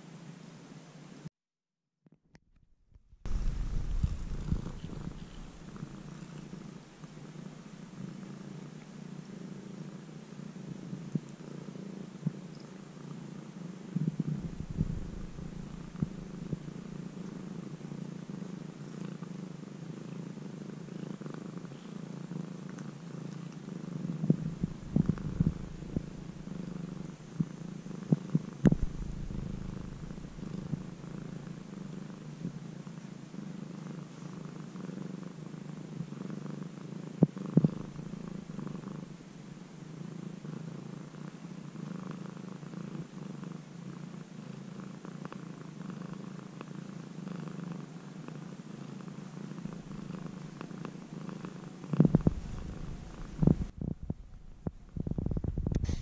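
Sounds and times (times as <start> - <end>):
cat purring: 3.1 - 56.0.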